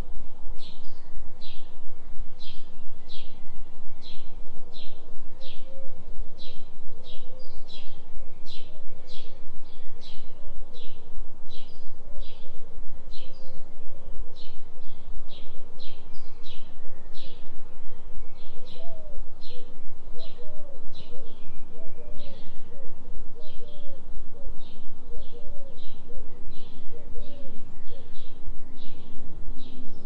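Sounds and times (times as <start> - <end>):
forest birds chirping: 0.0 - 30.0
low pulsing hum tone: 0.0 - 30.0.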